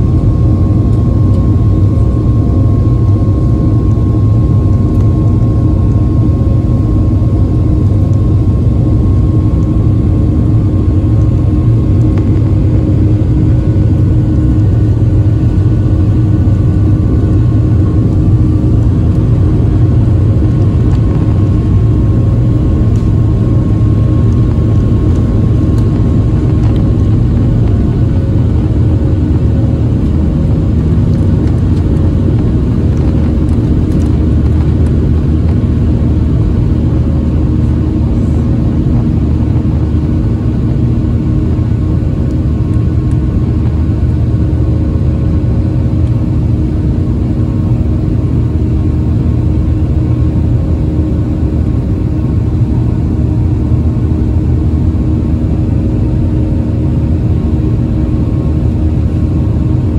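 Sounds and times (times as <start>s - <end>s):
jet engine roar: 0.0s - 59.9s
jet engine whine: 0.0s - 59.9s.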